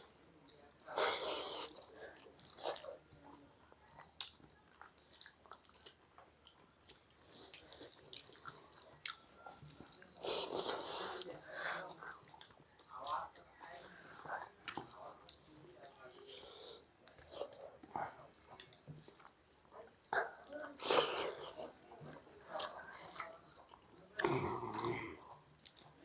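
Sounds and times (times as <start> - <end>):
chewing with mouth clicks: 0.5 - 16.3, 17.0 - 26.0.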